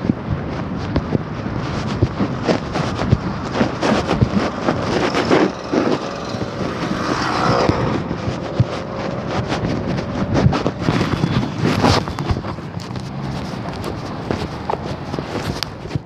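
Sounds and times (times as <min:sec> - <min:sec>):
cars and bus passing: 0:00.0 - 0:16.0.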